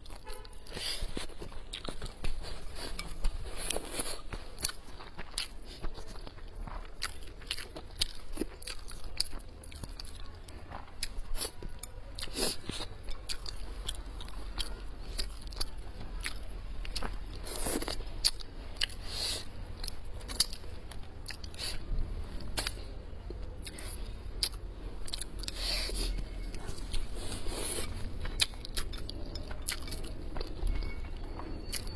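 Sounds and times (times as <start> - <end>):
person chewing crisp food: 0.0 - 31.9.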